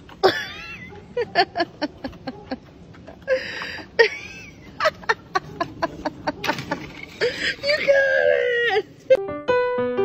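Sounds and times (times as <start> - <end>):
person laughing: 0.2 - 9.2.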